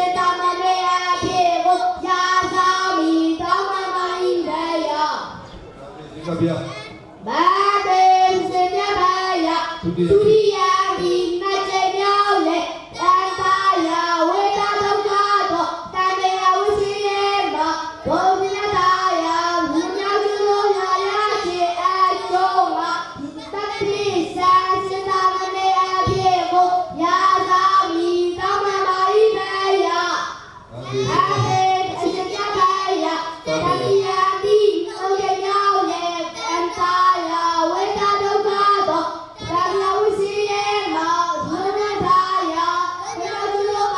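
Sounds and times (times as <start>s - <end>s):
boy chanting into microphone: 0.0s - 5.6s, 6.2s - 43.9s.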